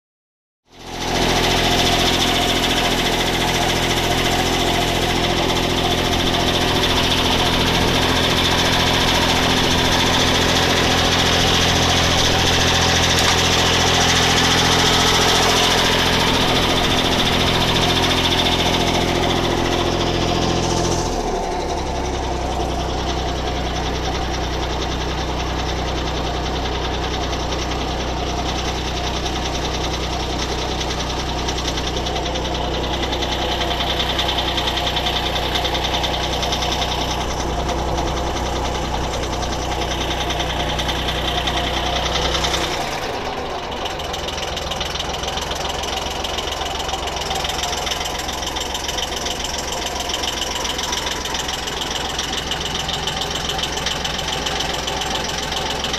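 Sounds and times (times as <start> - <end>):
small motorboat engine running: 0.7 - 55.9.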